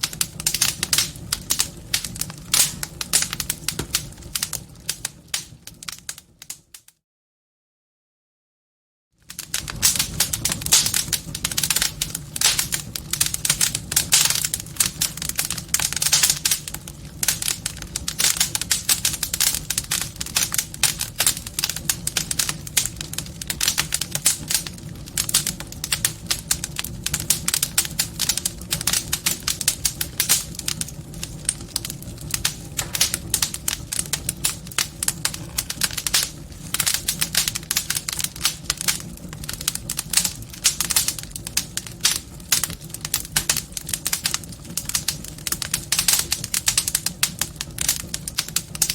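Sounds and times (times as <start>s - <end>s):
wood fire crackling and popping: 0.0s - 6.9s, 9.2s - 48.9s.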